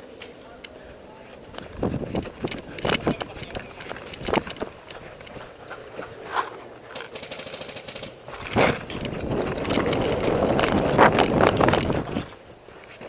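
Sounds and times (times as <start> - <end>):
gear rattling: 0.0 - 13.0
person running on dirt: 1.4 - 7.2, 8.2 - 13.0
paintball markers firing: 1.6 - 12.3.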